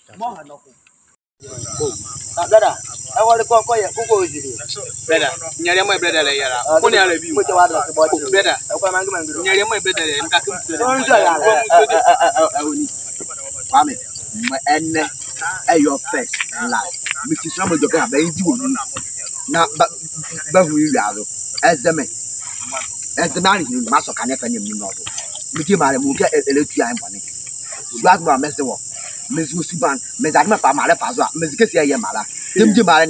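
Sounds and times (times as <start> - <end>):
people talking: 0.0 - 0.8, 1.4 - 33.0
crickets chirping: 0.0 - 33.0.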